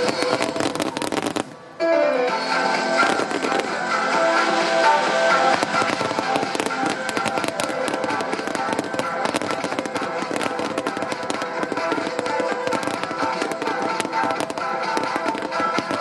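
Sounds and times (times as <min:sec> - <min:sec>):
fireworks crackling and popping: 0:00.0 - 0:01.7, 0:02.8 - 0:16.0
music playing: 0:00.0 - 0:16.0.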